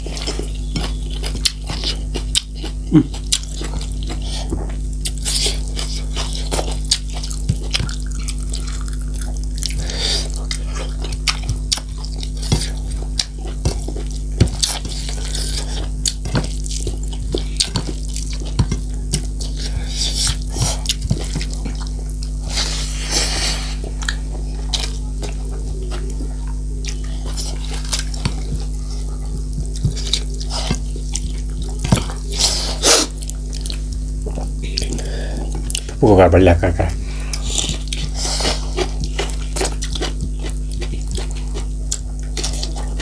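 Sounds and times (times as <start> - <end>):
wet chewing and lip-smacking: 0.0 - 22.9, 23.6 - 36.0, 37.2 - 43.0.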